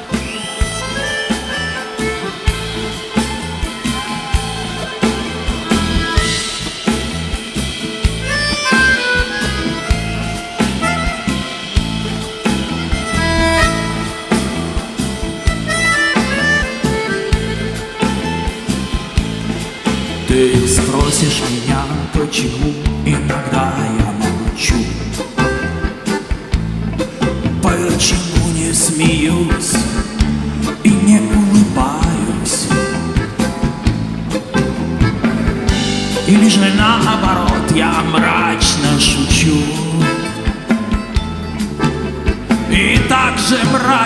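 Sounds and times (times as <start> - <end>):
button accordion: 0.0 - 22.0, 25.1 - 27.7, 28.8 - 44.0
drum kit beat: 0.0 - 44.0
guitars: 0.0 - 44.0.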